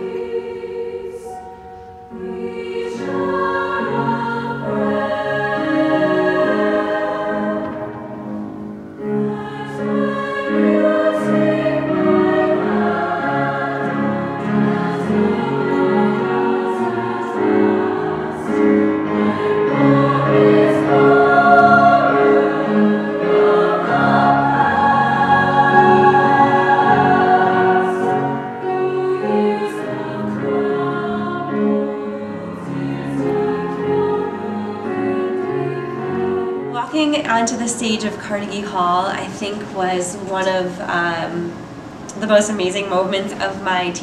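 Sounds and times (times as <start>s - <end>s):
women's choir singing: 0.0s - 41.6s.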